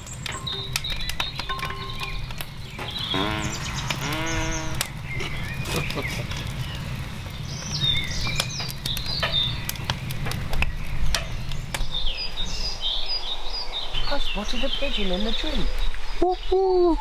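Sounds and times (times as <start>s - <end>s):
logs crackling and popping in fire: 0.0s - 16.2s
birds chirping: 0.0s - 17.0s.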